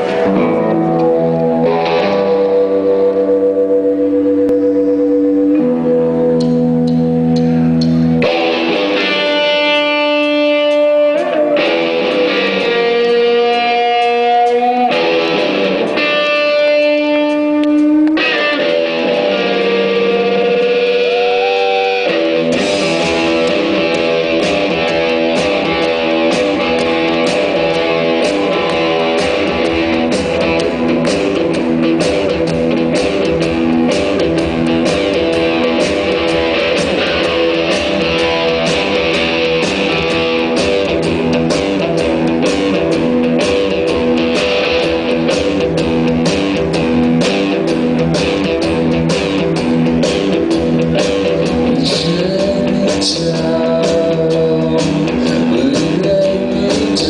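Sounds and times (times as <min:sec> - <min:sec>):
bass guitar: 0:00.0 - 0:57.0
electric guitar riff: 0:00.0 - 0:57.0.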